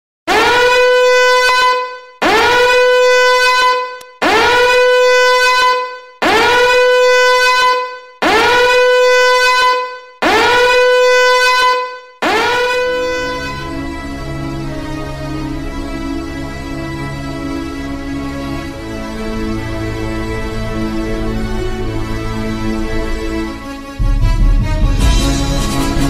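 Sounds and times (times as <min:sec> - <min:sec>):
warning alarm horn blasts: 0:00.3 - 0:26.0.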